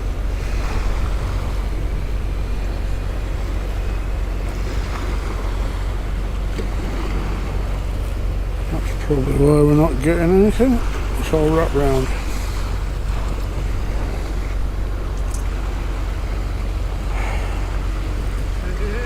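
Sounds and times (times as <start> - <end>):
sea waves washing: 0.0 - 19.0
wind buffeting microphone: 0.0 - 19.0.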